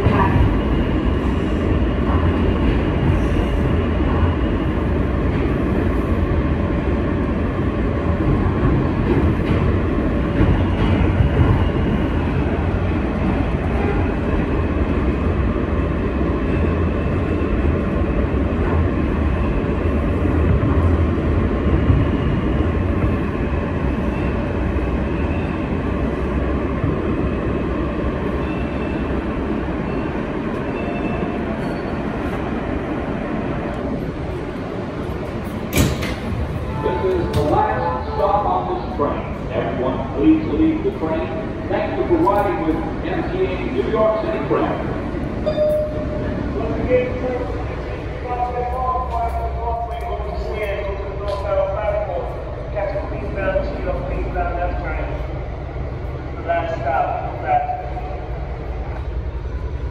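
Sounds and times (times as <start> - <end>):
subway car rumbling on track: 0.0 - 59.9.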